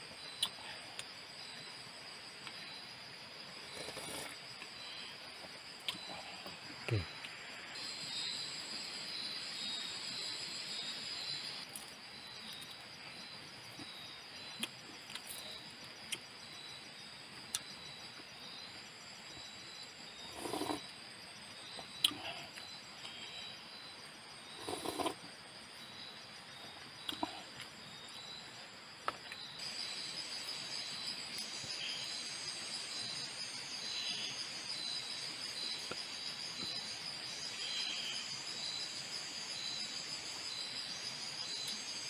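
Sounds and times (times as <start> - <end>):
insects droning: 0.0 - 42.0.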